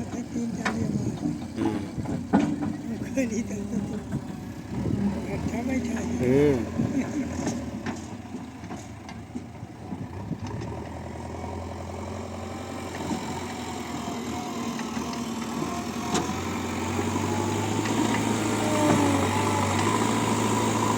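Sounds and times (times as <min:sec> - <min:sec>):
heavy diesel engine running: 0:00.0 - 0:20.9.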